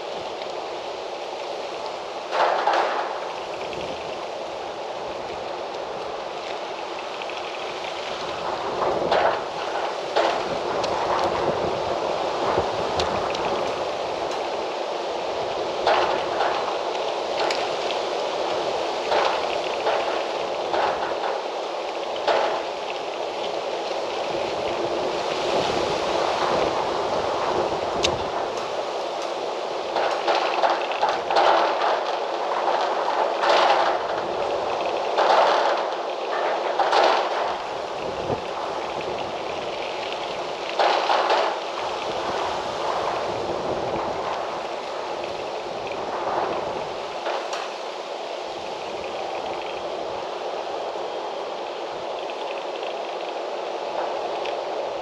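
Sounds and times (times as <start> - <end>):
wind gusting through trees: 0.0 - 55.0.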